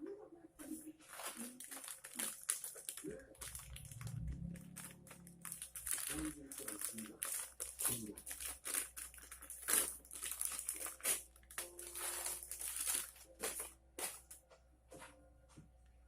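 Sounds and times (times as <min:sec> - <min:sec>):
crinkling and rustling: 0:00.6 - 0:14.5.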